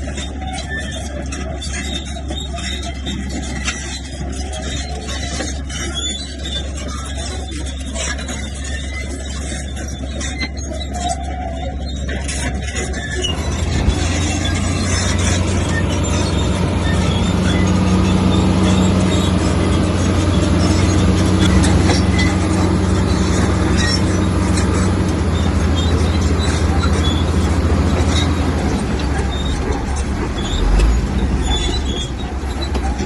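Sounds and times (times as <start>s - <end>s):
bulldozer diesel engine running: 0.0s - 33.0s
clanking squealing tracks: 0.0s - 33.0s
stone scraping rattle: 0.0s - 33.0s.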